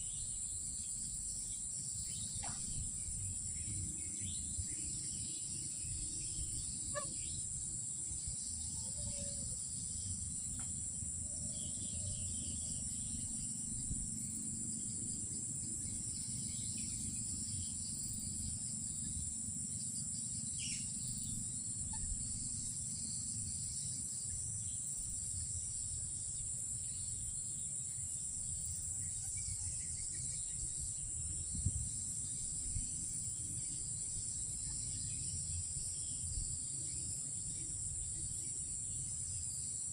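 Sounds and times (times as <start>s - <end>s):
crickets droning: 0.0s - 39.9s.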